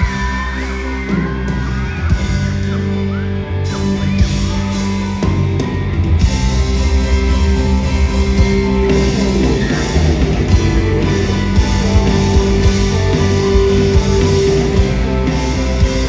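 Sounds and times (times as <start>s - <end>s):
drum kit beat: 0.0s - 2.8s, 4.2s - 16.0s
electric guitar: 0.0s - 16.0s
rock band playing: 0.0s - 16.0s.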